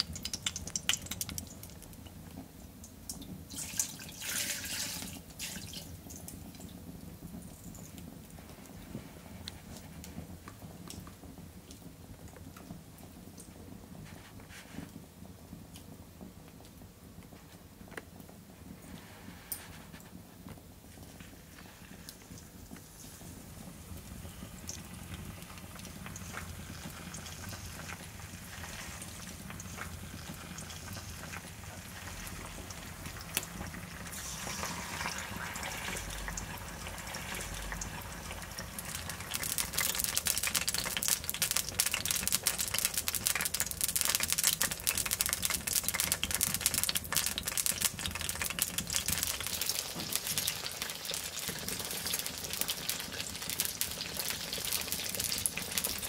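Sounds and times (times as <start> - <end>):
fat sizzling and crackling in a pan: 0.0 - 56.0.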